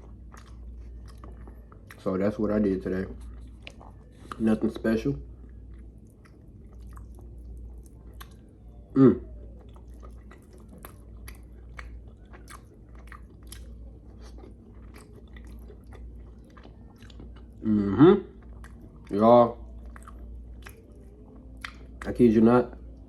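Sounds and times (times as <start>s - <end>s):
person chewing food: 0.0s - 22.2s
low steady hum: 0.0s - 23.0s.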